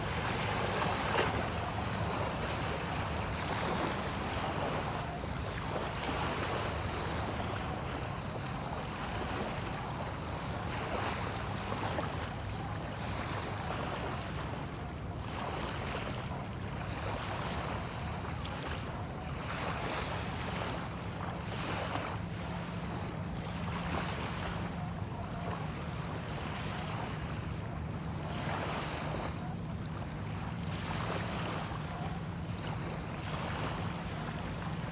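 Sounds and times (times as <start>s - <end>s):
waves washing in and out: 0.0s - 34.9s.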